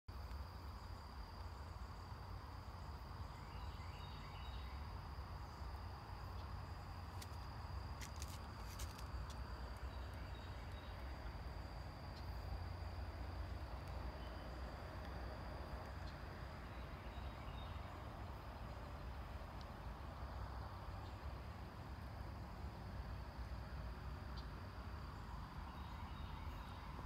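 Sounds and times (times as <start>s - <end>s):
low outdoor rumble: 0.1s - 27.0s.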